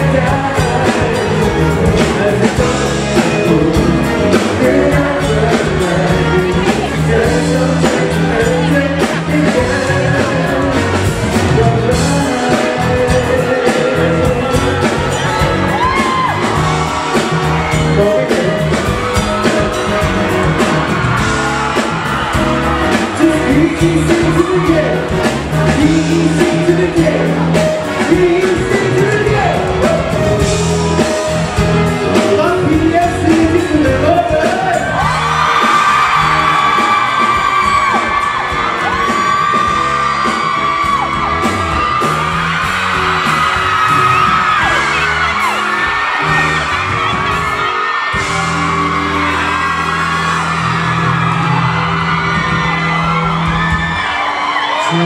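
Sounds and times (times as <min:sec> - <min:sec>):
crowd shouts and whoops: 0:00.0 - 0:55.0
live band music with singing: 0:00.0 - 0:55.0.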